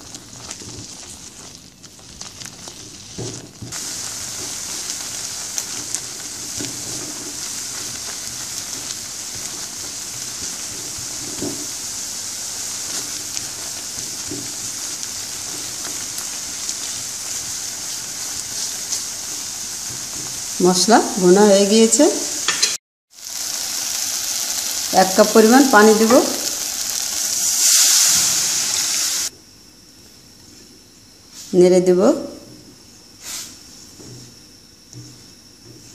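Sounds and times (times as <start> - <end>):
spice paste sizzling: 0.0 - 29.3.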